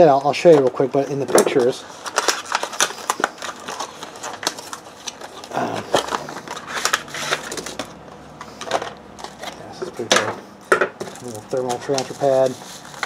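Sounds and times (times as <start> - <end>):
packaging crinkling and crackling: 0.0 - 10.1, 11.0 - 13.0.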